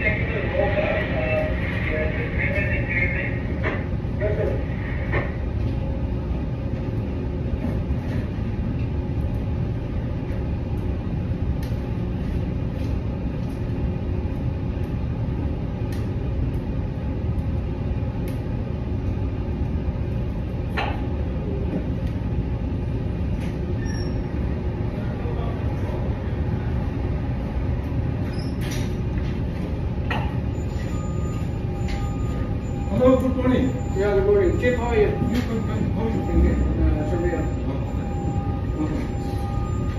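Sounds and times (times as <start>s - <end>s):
low machinery rumble: 0.0s - 39.9s.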